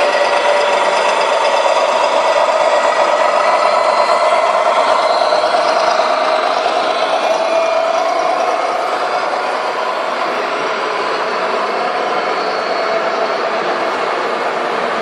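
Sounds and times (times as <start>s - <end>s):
model truck motor whine: 0.0s - 15.0s.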